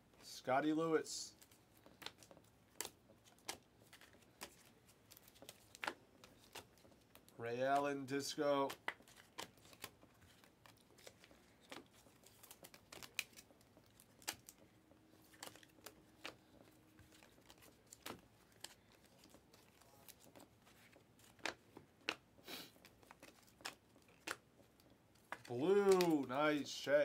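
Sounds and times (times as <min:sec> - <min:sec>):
cards flicking against cards: 0:01.4 - 0:07.9, 0:08.6 - 0:26.6.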